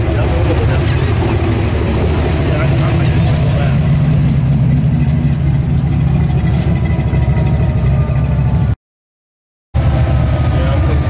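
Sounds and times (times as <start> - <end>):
car engine rumbling: 0.0 - 8.8, 9.8 - 11.0.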